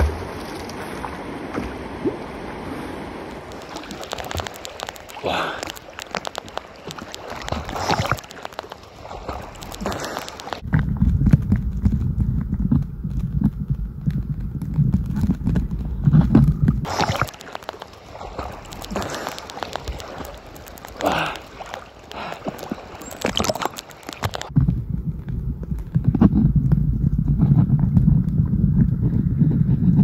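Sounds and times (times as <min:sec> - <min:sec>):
water drips and clicks: 0:00.0 - 0:02.3, 0:03.2 - 0:30.0
water splashing and gurgling: 0:00.0 - 0:30.0
muffled underwater rumble: 0:03.6 - 0:30.0.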